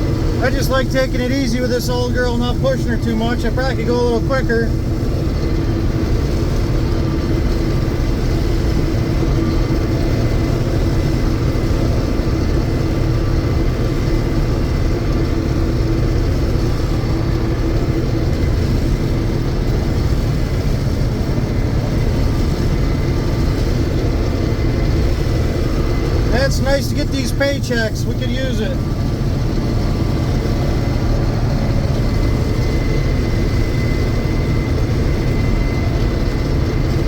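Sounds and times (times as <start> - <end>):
combine harvester engine drone: 0.0 - 37.0.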